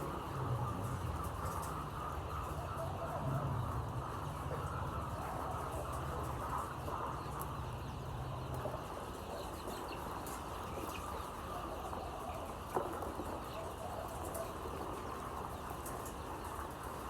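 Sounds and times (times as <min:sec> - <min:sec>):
chickens chirping in chorus: 0:00.0 - 0:17.0.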